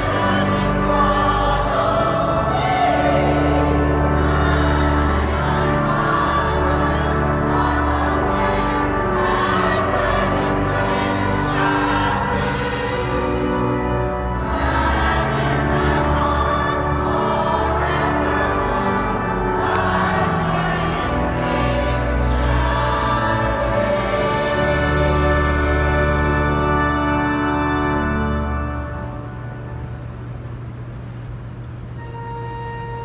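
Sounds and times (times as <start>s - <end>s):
choir singing: 0.0s - 26.8s
church organ low notes: 0.0s - 33.0s.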